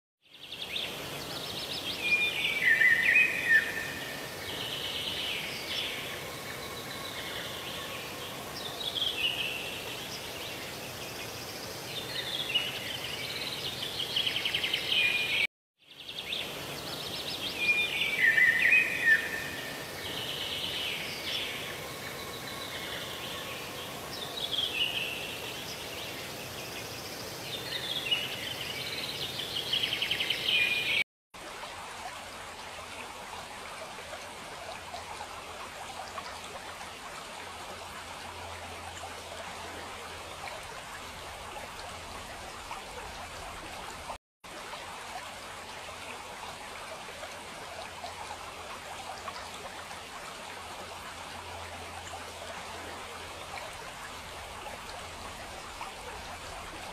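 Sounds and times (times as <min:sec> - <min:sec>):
stream flowing: 0:00.2 - 0:56.9.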